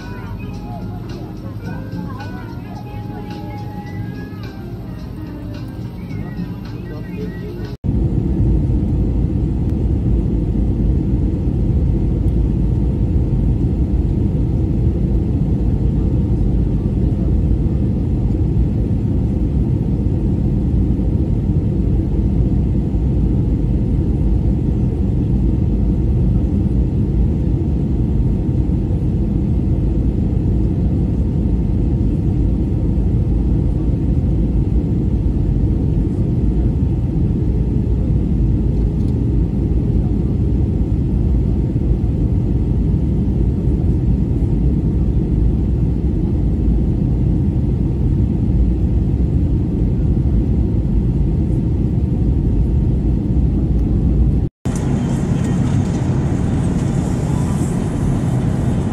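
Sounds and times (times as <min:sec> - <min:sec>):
airliner cabin rumble: 0:00.0 - 0:58.9.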